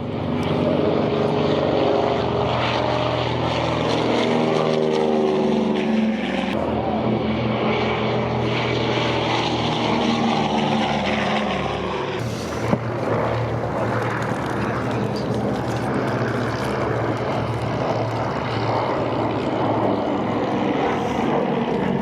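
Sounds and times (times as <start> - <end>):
propeller aircraft flying past: 0.0 - 22.0.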